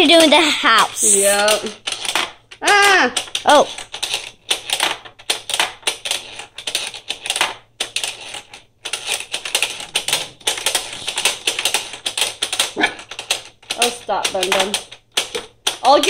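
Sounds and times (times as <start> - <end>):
plastic toy clicking and clattering: 0.0 - 16.0.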